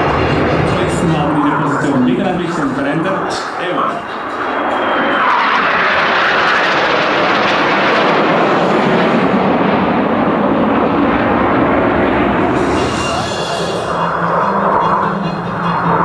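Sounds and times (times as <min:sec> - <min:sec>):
jet fighters passing overhead: 0:00.0 - 0:16.0.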